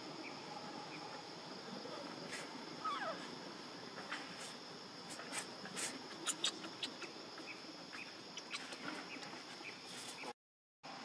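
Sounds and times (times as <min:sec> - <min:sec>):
insects droning: 0:00.0 - 0:10.3.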